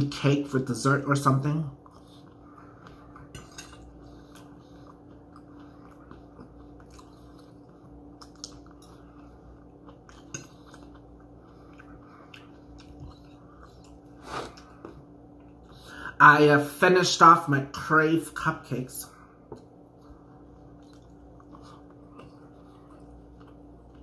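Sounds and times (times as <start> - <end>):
faint steady hum: 0.0 - 24.0
person chewing food: 1.4 - 16.0, 19.2 - 24.0.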